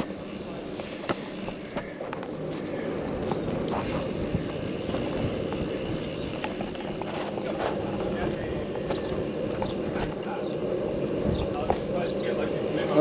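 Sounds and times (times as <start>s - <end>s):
bicycle rolling on road: 0.0s - 13.0s.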